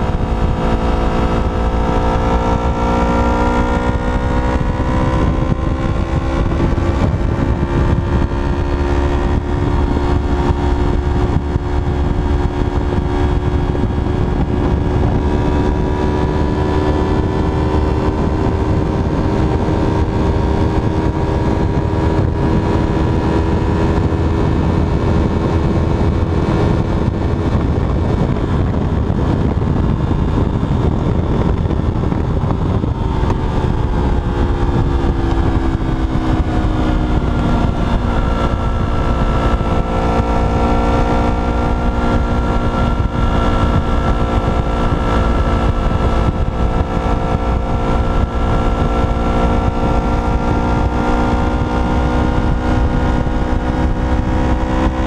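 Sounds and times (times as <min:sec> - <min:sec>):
motorcycle engine running hard: 0:00.0 - 0:55.0
wind and road noise: 0:00.0 - 0:55.0.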